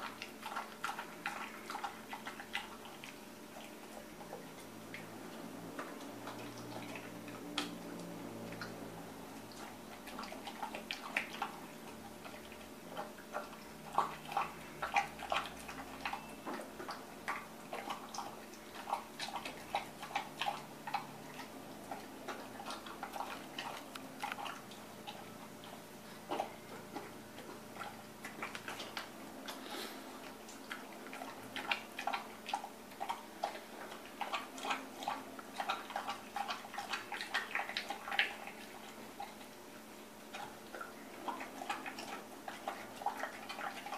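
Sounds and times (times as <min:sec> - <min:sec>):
dog chewing food: 0:00.0 - 0:43.9.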